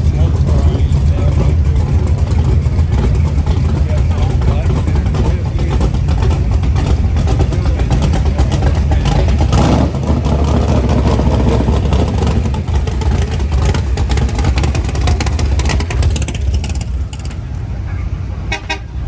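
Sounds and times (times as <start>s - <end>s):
car engine revving: 0.0s - 17.7s.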